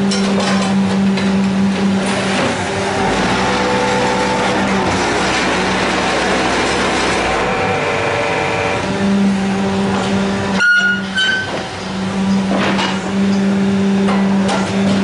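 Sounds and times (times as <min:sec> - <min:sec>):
construction machinery humming: 0:00.0 - 0:15.0.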